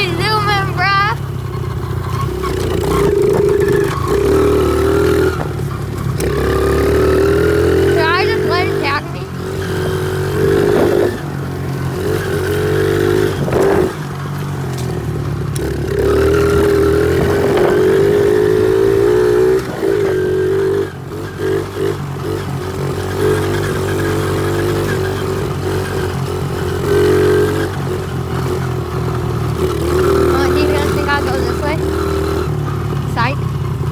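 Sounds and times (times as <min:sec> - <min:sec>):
motorbike engine revving: 0:00.0 - 0:33.9.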